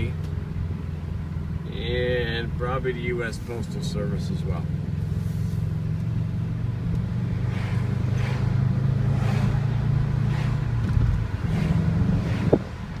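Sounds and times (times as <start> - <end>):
car engine and exhaust droning: 0.0 - 13.0.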